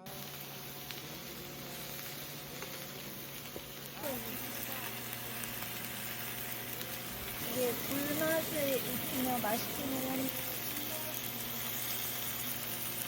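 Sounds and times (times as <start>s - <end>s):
faint voices: 0.0s - 5.8s, 6.4s - 11.6s
low hum: 0.0s - 13.0s
steady hissing noise: 0.0s - 13.0s.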